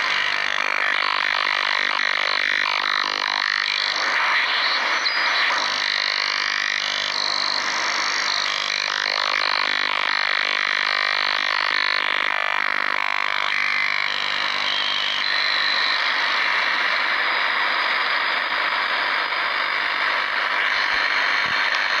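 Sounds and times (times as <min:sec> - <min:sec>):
rough radio hiss with faint tone: 0:00.0 - 0:22.0.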